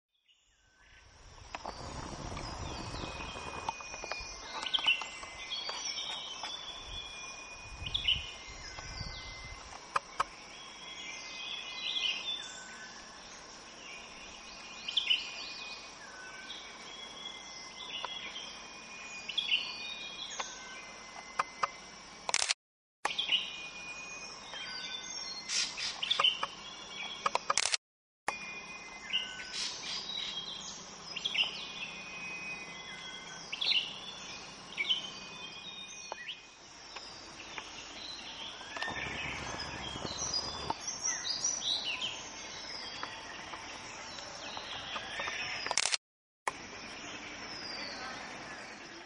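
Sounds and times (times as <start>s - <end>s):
wild birds chirping: 0.3s - 22.5s, 23.1s - 27.8s, 28.5s - 49.0s.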